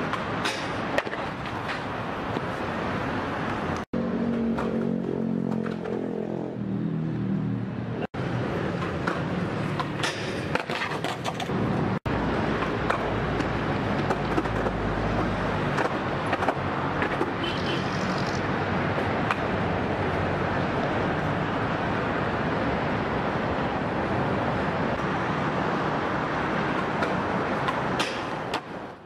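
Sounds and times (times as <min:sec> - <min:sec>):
street noise hiss: 0:00.0 - 0:05.0, 0:05.9 - 0:29.0
skateboard wheels rolling on concrete: 0:00.0 - 0:06.4, 0:07.9 - 0:29.0.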